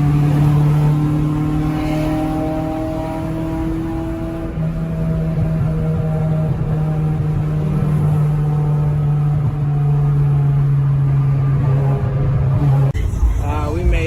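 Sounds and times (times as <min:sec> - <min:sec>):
car engine droning while cruising: 0:00.0 - 0:14.0.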